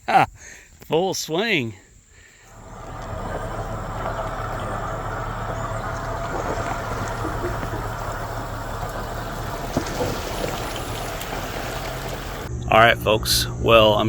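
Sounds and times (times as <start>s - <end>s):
engine humming and rumbling: 2.5s - 14.0s.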